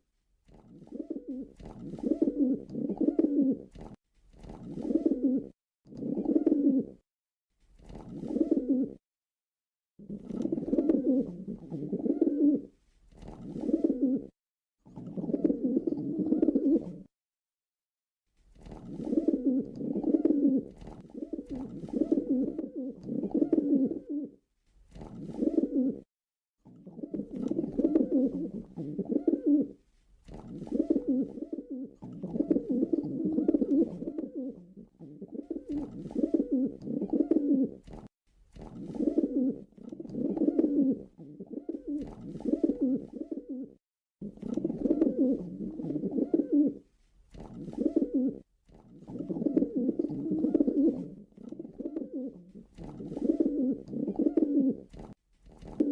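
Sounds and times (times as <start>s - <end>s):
pigeon cooing: 0.7s - 3.7s, 4.7s - 7.0s, 8.0s - 9.0s, 10.0s - 14.3s, 15.0s - 17.1s, 18.7s - 24.4s, 25.0s - 26.1s, 26.7s - 38.0s, 38.8s - 55.9s.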